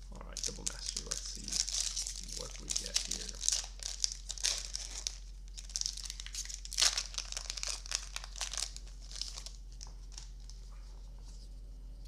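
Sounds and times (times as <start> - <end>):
foil wrapper tearing and crinkling: 0.4 - 10.6.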